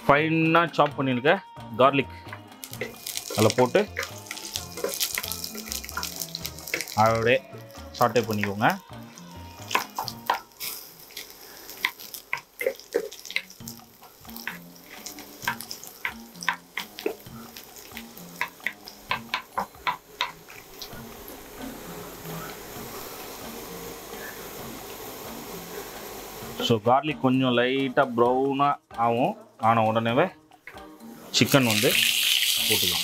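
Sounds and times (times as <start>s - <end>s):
garlic sizzling in oil: 2.3s - 26.8s, 30.8s - 33.0s.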